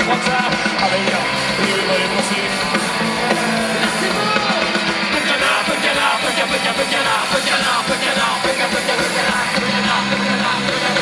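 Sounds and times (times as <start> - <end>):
person singing: 0.0 - 11.0
punk rock band playing live: 0.0 - 11.0.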